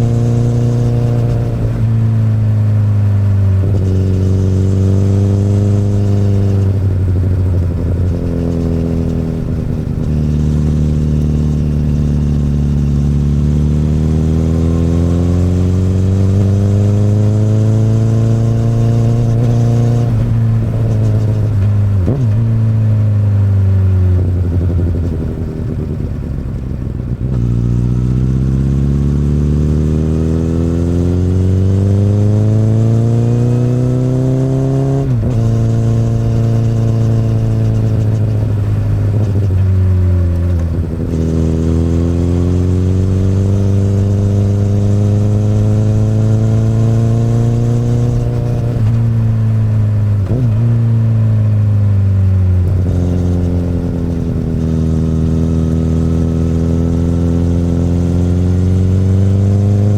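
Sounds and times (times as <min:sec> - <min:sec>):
motorcycle exhaust revving: 0:00.0 - 0:59.9.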